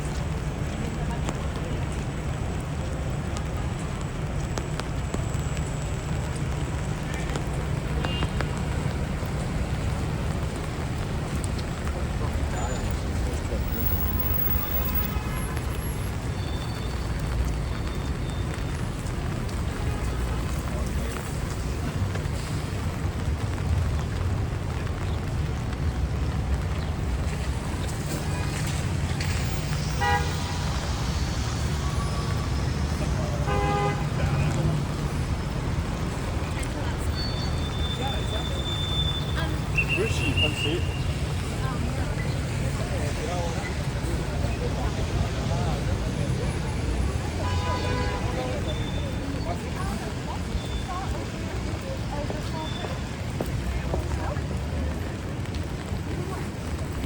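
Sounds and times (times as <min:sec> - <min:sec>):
passing traffic rumble: 0:00.0 - 0:57.0
rain on street: 0:00.0 - 0:57.0.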